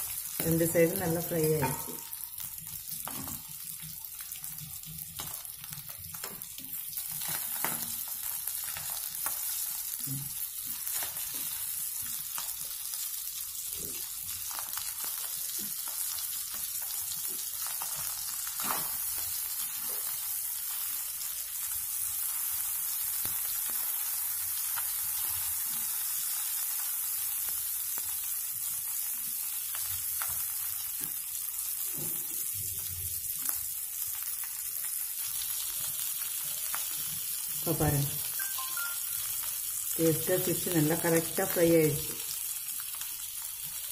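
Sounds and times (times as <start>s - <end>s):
fish sizzling in oil: 0.0s - 43.9s.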